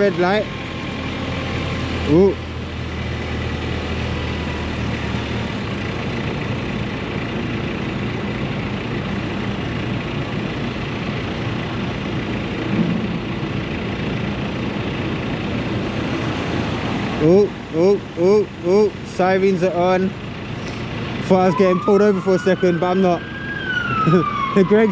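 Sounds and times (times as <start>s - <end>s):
city traffic noise: 0.0s - 24.9s
low engine hum: 0.0s - 24.9s.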